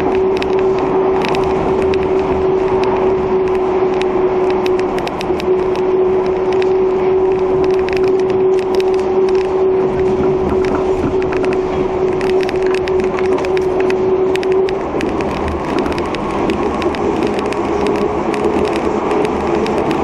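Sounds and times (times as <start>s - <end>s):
constant hum: 0.0s - 20.0s
sharp clicks and ticks: 0.0s - 20.0s
train tyres rumbling: 0.0s - 20.0s.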